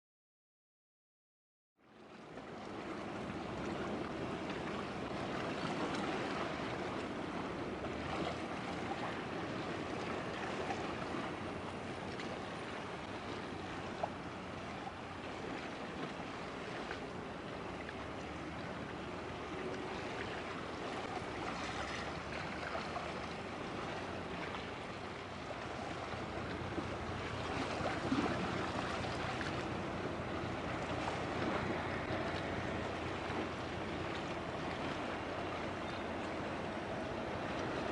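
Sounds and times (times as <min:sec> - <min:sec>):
wind: 0:01.8 - 0:37.9
water rushing: 0:02.0 - 0:37.9
ship engine drone: 0:02.2 - 0:37.9.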